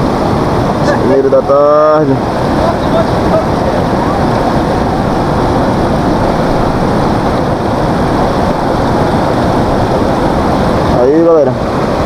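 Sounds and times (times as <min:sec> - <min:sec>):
river water rushing around rocks: 0:00.0 - 0:12.0.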